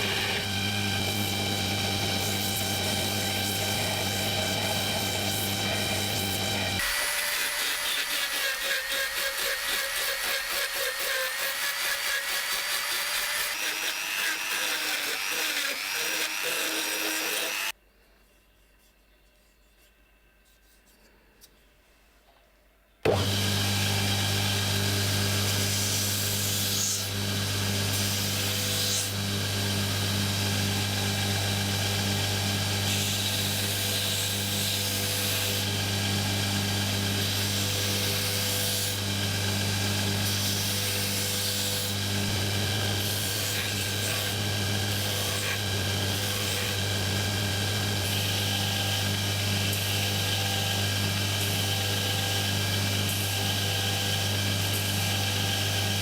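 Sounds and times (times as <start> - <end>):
power tool motor hum: 0.0 - 8.6, 11.1 - 17.7, 23.1 - 56.0.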